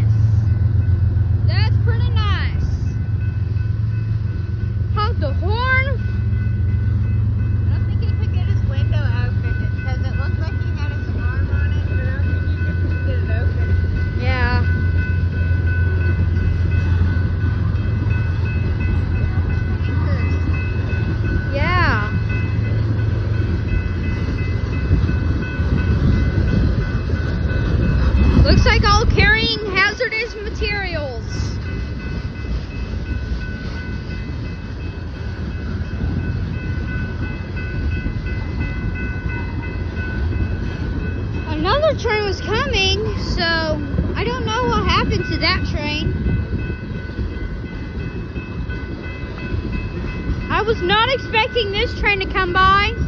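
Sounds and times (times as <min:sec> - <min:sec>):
crossing bell ringing: 0:00.0 - 0:53.0
freight train low rumble: 0:00.0 - 0:53.0.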